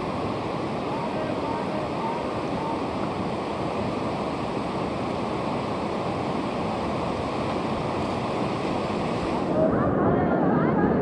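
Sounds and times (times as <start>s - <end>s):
river rapids rushing over boulders: 0.0s - 10.2s.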